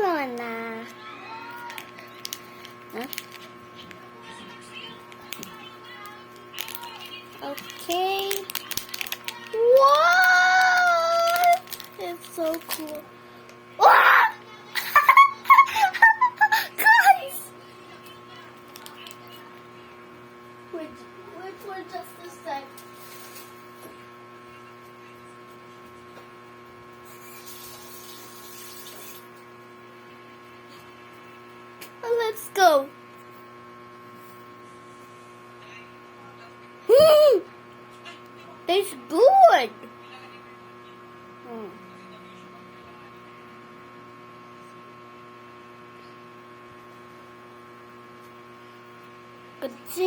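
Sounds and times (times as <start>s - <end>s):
electrical hum: 0.0s - 50.0s.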